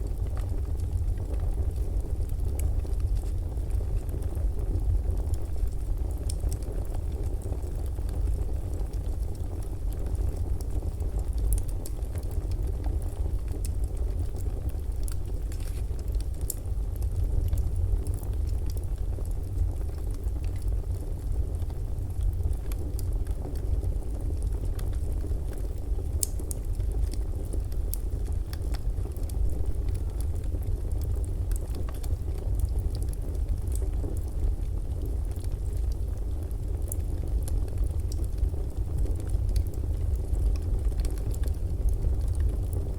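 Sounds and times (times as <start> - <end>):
fire low rumble: 0.0 - 42.9
wood crackling and popping: 0.0 - 42.9.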